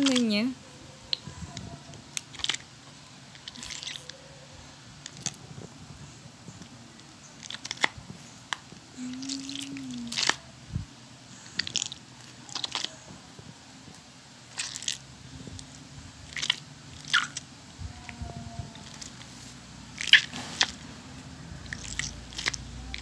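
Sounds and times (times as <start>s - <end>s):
stress ball crackling and squelching: 0.0s - 23.0s.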